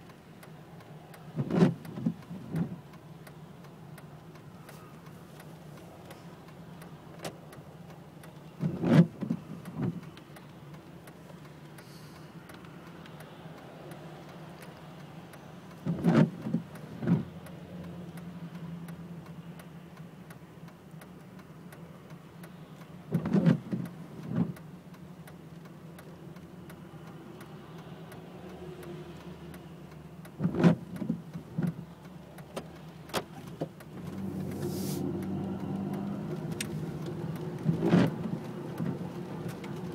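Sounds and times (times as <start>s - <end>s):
car hum in rain: 0.0s - 39.9s.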